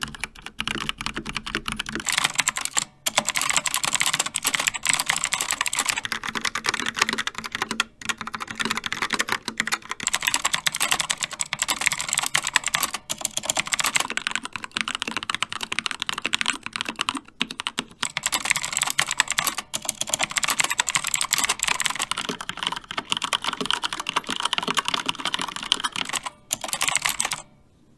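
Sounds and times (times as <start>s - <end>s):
fast typing on mechanical keyboards: 0.0s - 27.5s.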